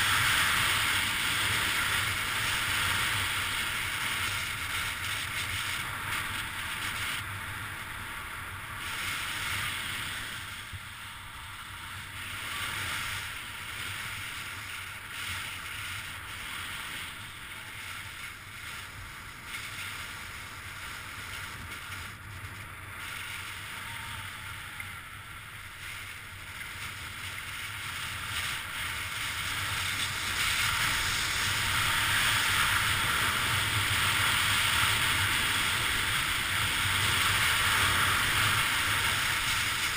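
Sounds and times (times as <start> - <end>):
skis sliding over snow: 0.0 - 39.9
wind on microphone: 0.0 - 39.9.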